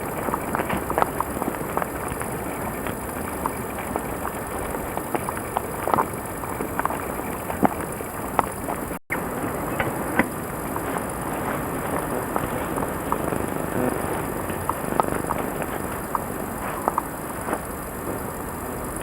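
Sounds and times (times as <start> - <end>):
camcorder hiss: 0.0 - 19.0
leaves and twigs crackling underfoot: 0.0 - 19.0.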